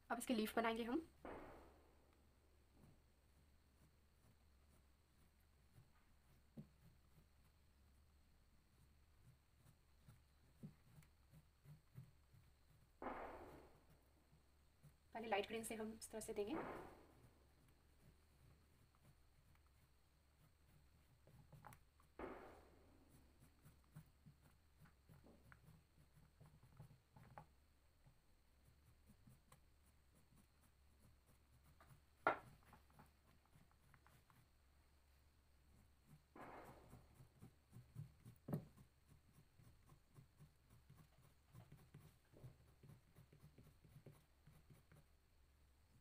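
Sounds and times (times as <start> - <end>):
crayon scratching on paper: 2.8 - 13.0, 13.6 - 22.1, 22.9 - 45.2.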